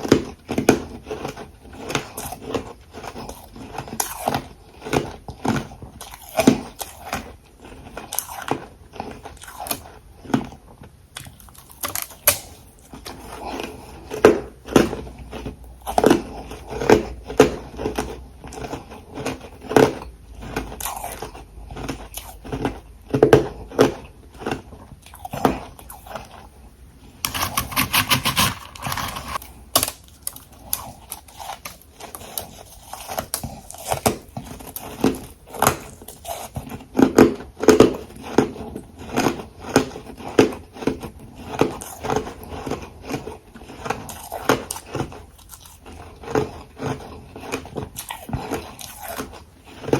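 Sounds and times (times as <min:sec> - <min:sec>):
person crunching ice: 0:00.0 - 0:10.6, 0:11.2 - 0:49.9.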